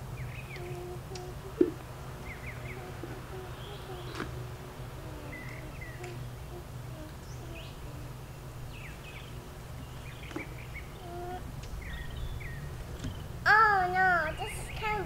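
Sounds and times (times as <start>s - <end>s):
birds chirping: 0.0s - 15.0s
low background hum: 0.0s - 15.0s.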